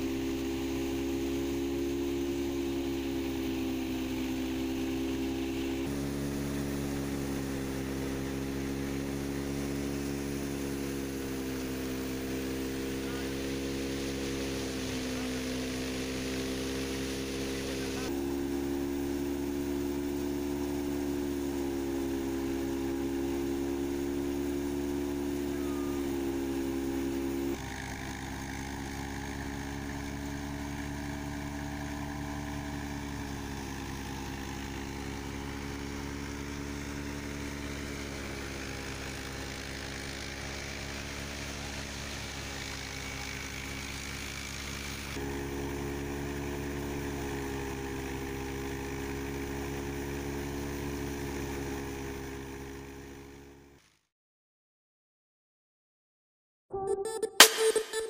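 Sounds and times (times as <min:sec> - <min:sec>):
threshing drum and fan whirring: 0:00.0 - 0:52.5
engine drone: 0:00.0 - 0:53.8, 0:56.7 - 0:58.0.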